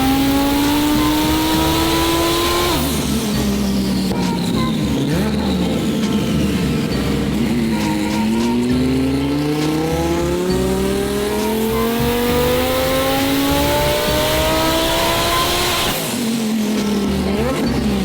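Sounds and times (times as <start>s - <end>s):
car engine revving at full throttle: 0.0s - 18.0s.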